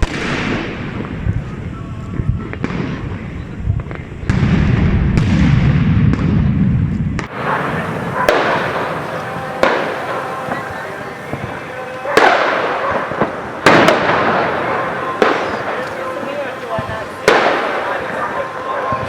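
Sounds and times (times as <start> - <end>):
crackling rumble: 0.0 - 19.0
firecrackers banging: 0.0 - 19.0.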